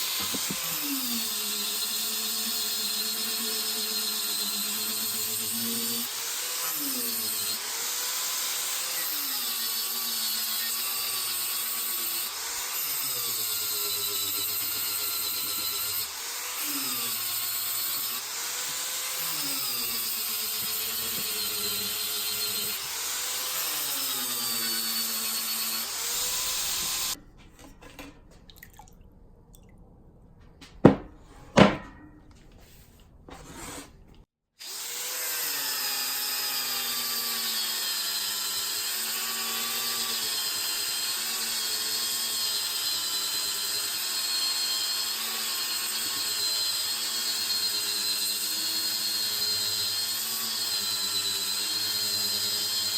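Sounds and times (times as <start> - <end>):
hand-held power tool running: 0.0 - 27.2, 34.6 - 52.9.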